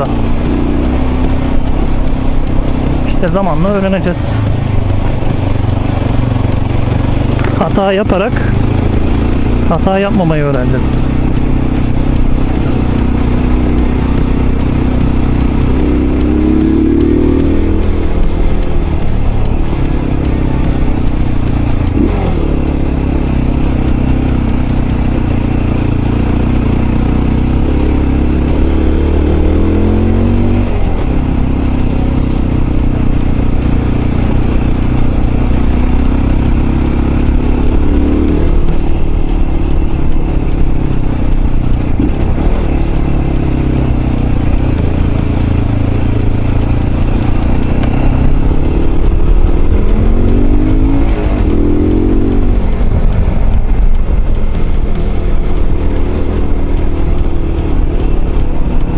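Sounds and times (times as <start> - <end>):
motorcycle engine revving: 0.0 - 58.9
road and wind noise: 0.0 - 58.9.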